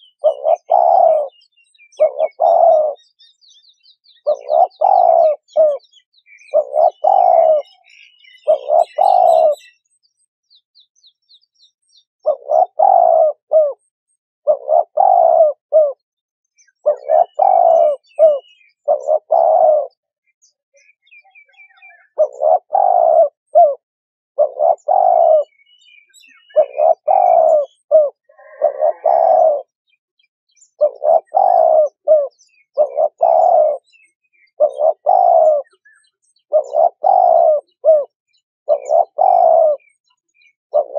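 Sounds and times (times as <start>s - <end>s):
dove cooing: 0.0s - 3.3s, 4.1s - 9.8s, 12.2s - 16.0s, 16.8s - 20.1s, 21.3s - 23.8s, 24.4s - 29.7s, 30.7s - 40.9s
faint small bird chirps: 0.0s - 23.8s, 24.4s - 40.9s.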